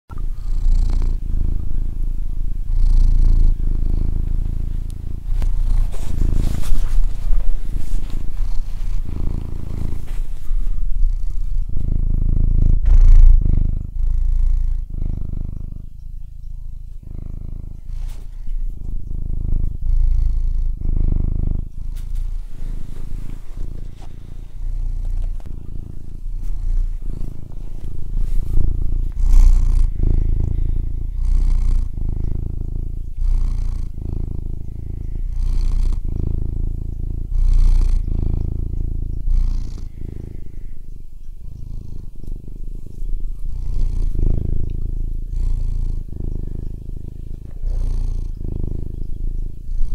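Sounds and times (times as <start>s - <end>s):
cat purring: 0.1s - 49.9s.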